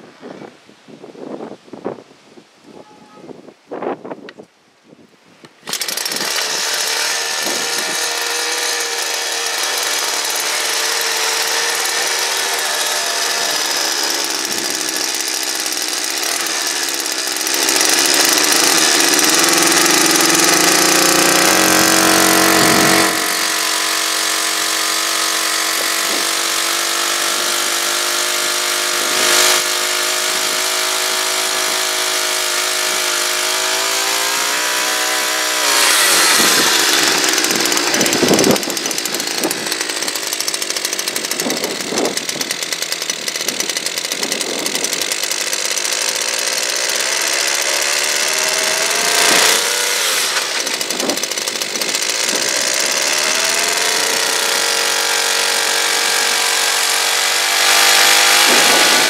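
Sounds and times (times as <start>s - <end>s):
small two-stroke engine revving: 5.5s - 59.0s.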